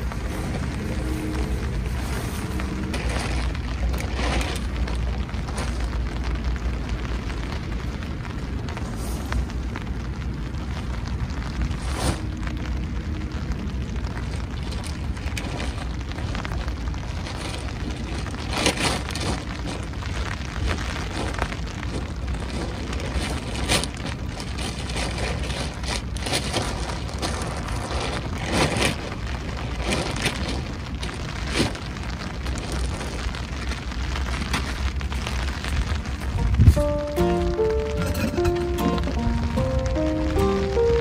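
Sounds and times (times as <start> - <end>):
tent fabric rustling: 0.0 - 7.6, 11.7 - 12.5, 14.2 - 41.0
wind rumble on microphone: 0.0 - 37.7.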